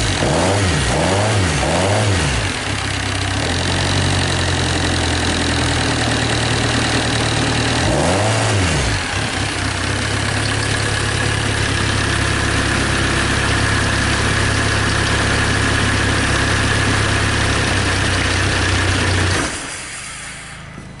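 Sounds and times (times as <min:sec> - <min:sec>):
diesel engine idling: 0:02.4 - 0:21.0.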